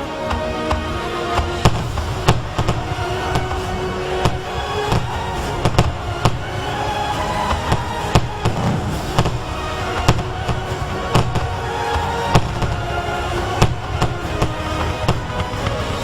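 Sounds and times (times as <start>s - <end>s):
fireworks banging: 0.0s - 16.0s
music with low rumble: 0.0s - 16.0s.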